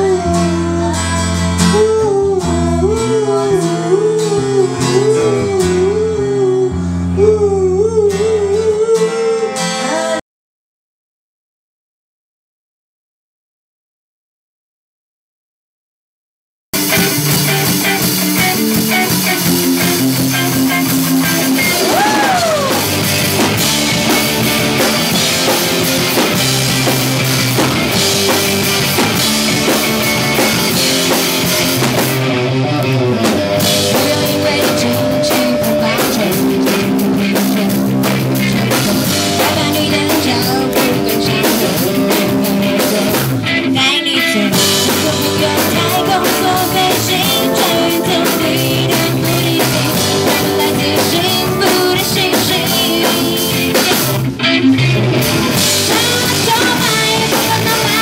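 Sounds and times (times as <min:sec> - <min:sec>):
rock band playing: 0:00.0 - 0:10.2, 0:16.8 - 0:58.0.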